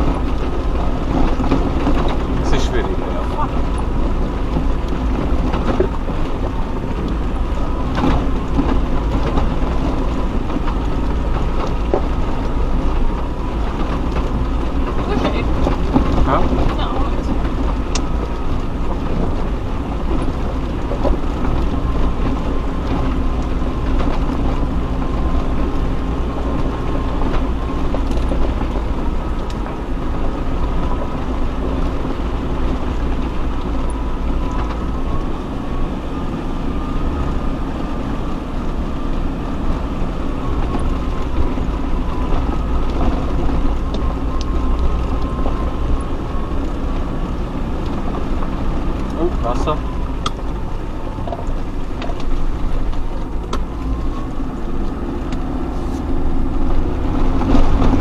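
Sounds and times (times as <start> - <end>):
off-road vehicle engine drone: 0.0 - 58.0.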